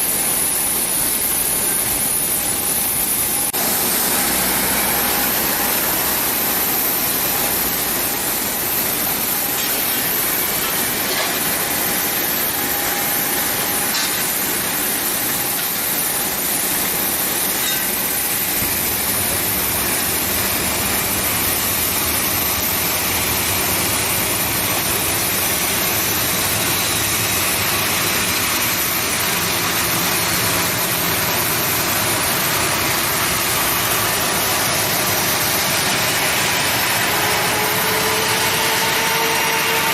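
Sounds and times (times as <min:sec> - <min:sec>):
high constant whine: 0:00.0 - 0:39.9
jet airliner engine noise: 0:00.0 - 0:39.9.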